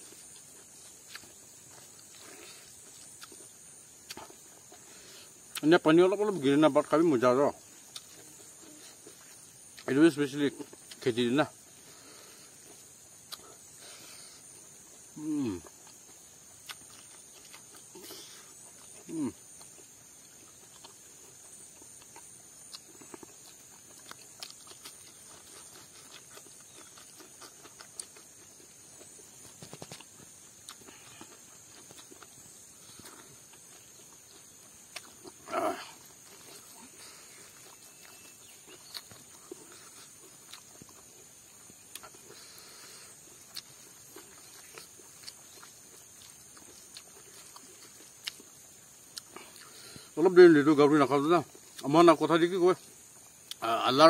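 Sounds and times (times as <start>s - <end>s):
steady high hiss: 0.0s - 54.0s
chewing and lip smacks: 0.1s - 5.7s, 7.7s - 10.0s, 12.6s - 15.0s, 15.6s - 50.0s.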